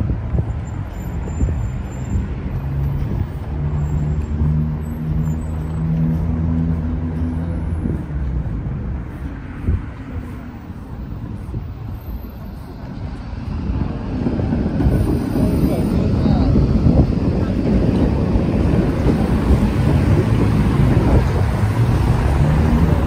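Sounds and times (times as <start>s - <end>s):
heavy vehicle engine humming: 0.0s - 23.0s
road traffic passing: 0.0s - 23.0s.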